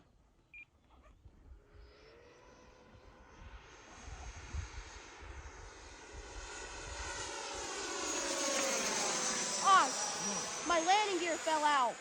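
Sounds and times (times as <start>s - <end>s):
model jet motor whining: 1.6s - 12.0s.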